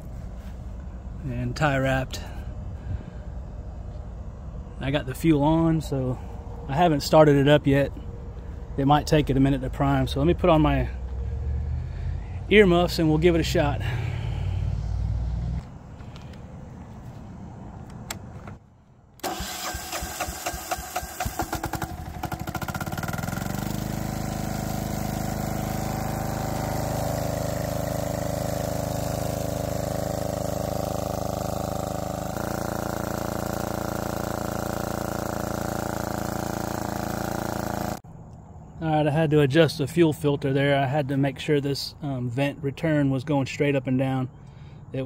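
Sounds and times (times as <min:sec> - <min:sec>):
diesel engine starting and running: 0:00.0 - 0:42.8.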